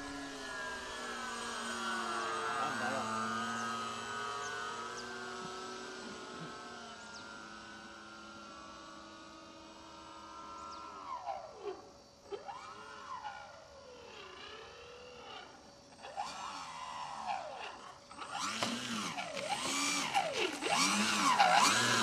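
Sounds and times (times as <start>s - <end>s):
model plane motor whining: 0.0s - 22.0s.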